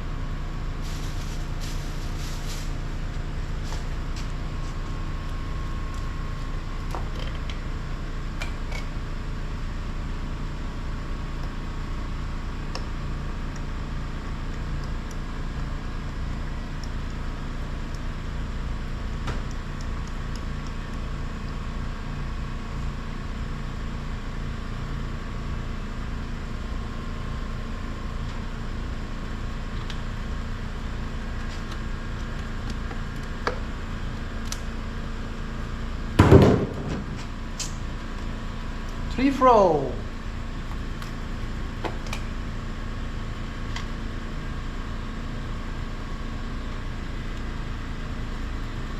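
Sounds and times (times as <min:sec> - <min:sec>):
low mechanical hum: 0:00.0 - 0:48.9.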